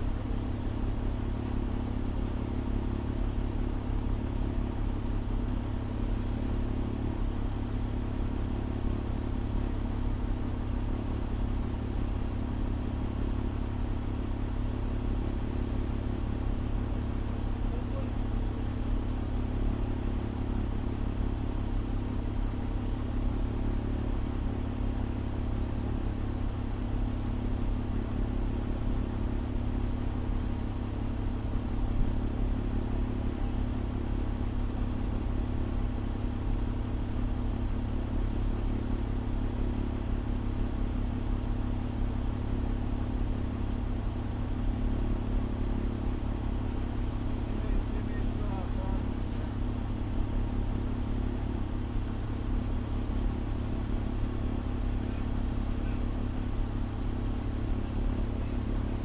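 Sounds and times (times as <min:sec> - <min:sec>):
engine low drone: 0:00.0 - 0:59.0.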